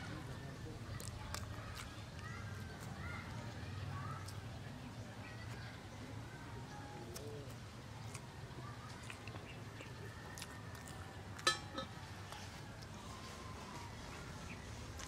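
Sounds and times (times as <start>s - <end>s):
quiet chewing: 0.4s - 15.0s.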